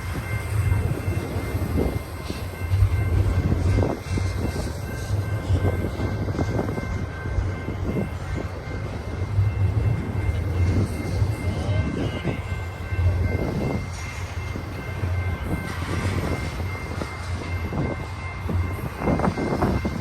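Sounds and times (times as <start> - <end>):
train cars rumbling on rails: 0.0 - 20.0.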